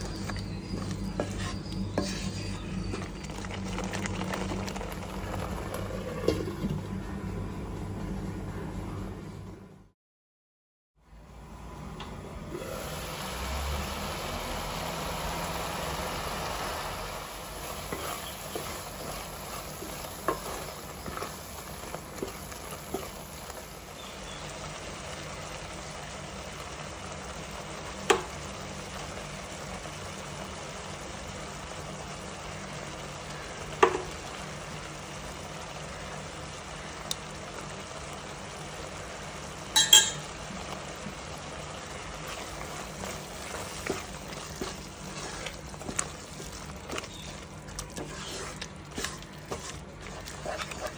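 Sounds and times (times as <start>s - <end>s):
gravy bubbling and sizzling: 0.0s - 8.0s, 12.5s - 50.9s.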